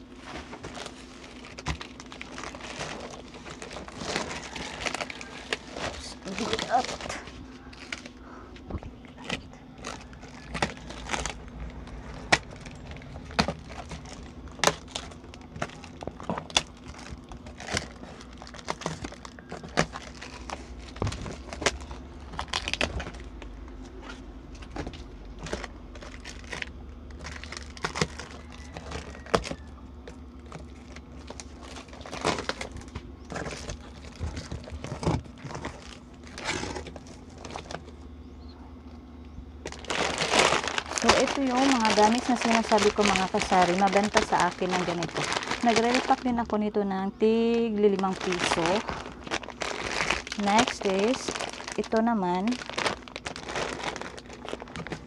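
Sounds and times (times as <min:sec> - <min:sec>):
cardboard rustling: 0:00.0 - 0:38.1, 0:39.6 - 0:55.0
steady low hum: 0:00.0 - 0:55.0.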